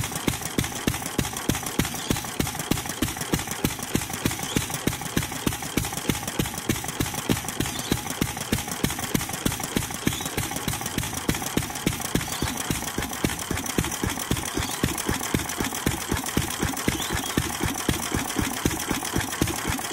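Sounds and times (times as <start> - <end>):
stationary engine knocking: 0.0 - 19.9.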